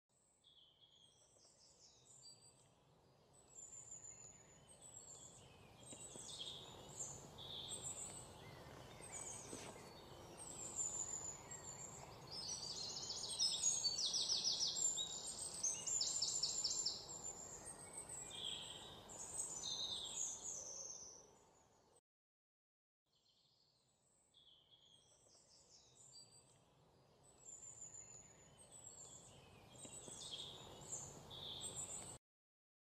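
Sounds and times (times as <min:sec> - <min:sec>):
birds chirping and trilling: 0:00.2 - 0:21.8, 0:23.6 - 0:32.2
faint outdoor hiss: 0:00.2 - 0:22.0, 0:23.2 - 0:32.2.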